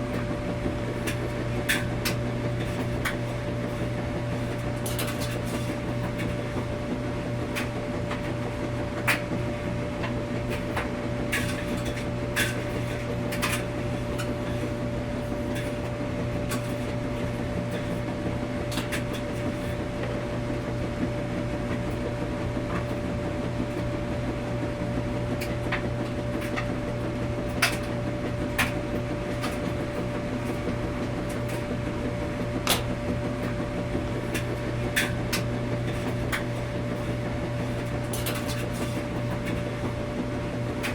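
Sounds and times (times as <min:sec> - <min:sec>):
washing machine humming: 0:00.0 - 0:40.9.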